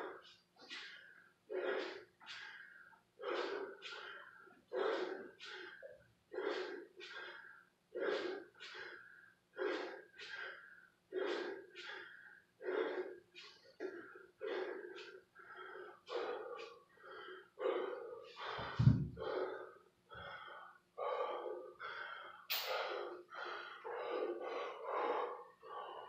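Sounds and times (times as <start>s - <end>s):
man breathing hard: 0.0s - 26.0s.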